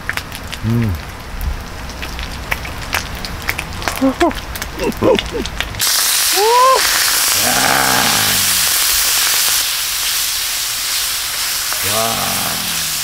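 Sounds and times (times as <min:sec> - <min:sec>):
food sizzling on a hot pan: 0:01.7 - 0:13.0.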